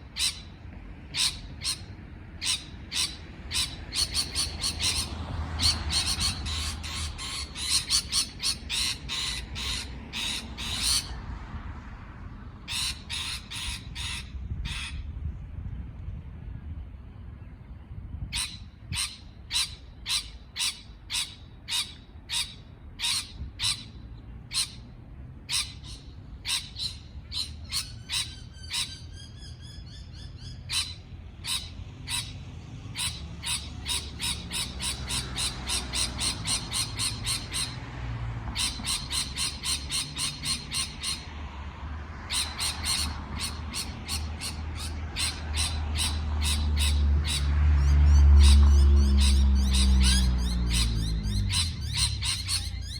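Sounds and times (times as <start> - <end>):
parrot calling: 1.1 - 11.2, 12.7 - 15.0, 18.3 - 24.8, 25.5 - 37.8, 38.5 - 41.3, 42.2 - 52.9.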